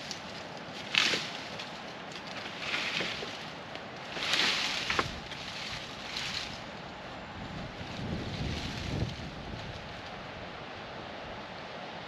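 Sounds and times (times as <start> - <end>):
wind gusting through trees: 0.0 - 12.0.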